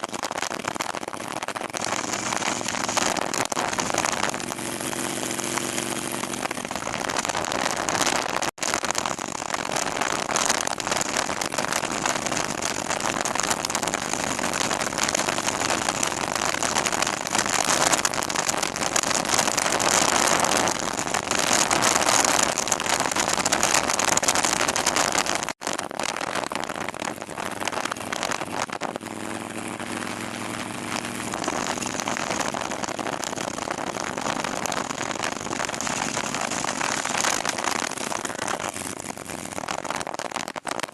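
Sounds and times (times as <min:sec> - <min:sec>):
motorcycle engine drone: 0:00.0 - 0:40.9
wind rush over microphone: 0:00.0 - 0:40.9.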